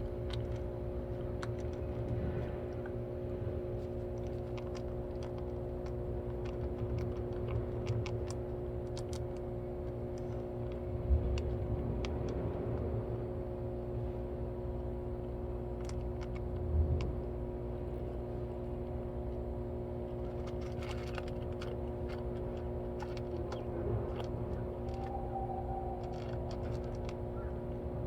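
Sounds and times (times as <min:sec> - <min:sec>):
machine hum with low rumble: 0:00.0 - 0:28.0.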